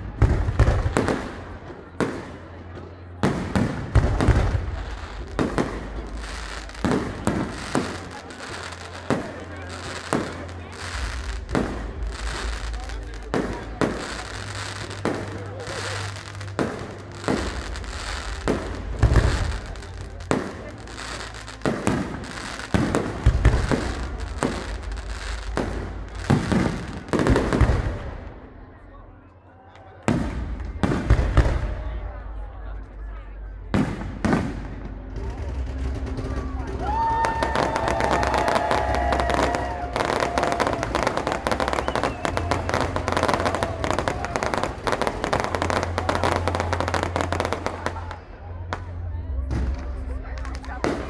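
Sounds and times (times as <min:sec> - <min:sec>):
fireworks bangs: 0:00.0 - 0:28.4, 0:30.0 - 0:32.0, 0:33.7 - 0:51.0
fireworks crackling: 0:00.0 - 0:28.5, 0:30.0 - 0:32.2, 0:33.7 - 0:51.0.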